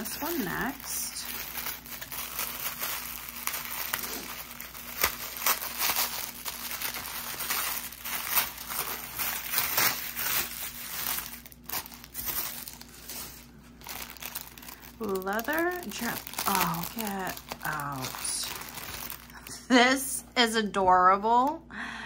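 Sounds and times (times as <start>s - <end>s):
packaging crinkling and rustling: 0.0s - 19.7s.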